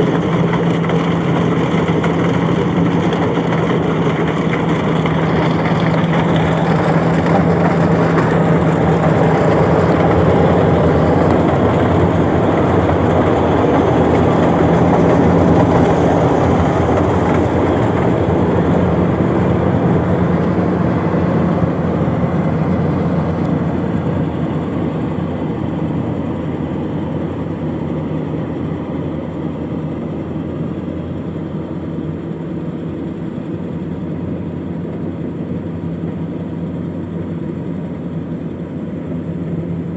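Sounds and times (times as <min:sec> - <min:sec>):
harvester machine running: 0:00.0 - 0:39.9.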